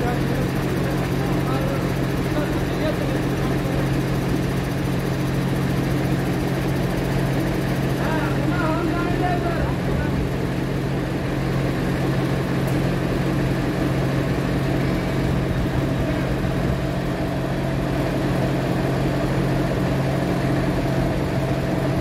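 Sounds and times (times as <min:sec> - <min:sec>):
crane engine humming: 0:00.0 - 0:22.0.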